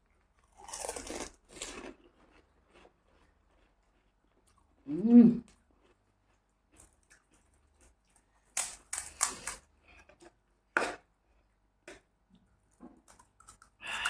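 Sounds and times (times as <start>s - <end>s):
crunching and chewing snack food: 0.0s - 14.0s.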